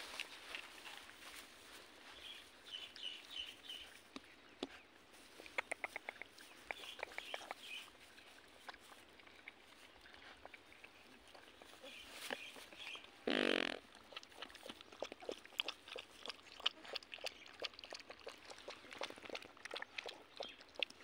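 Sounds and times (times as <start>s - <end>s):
puppies chewing and lapping: 0.0s - 21.0s.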